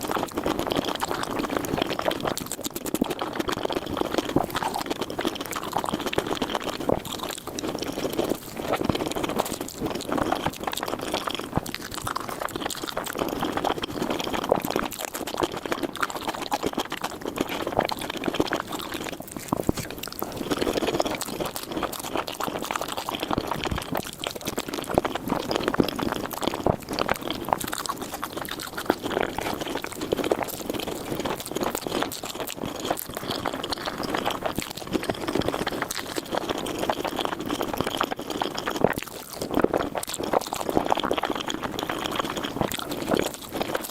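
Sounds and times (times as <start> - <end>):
slurping and chewing noodles: 0.0 - 43.9.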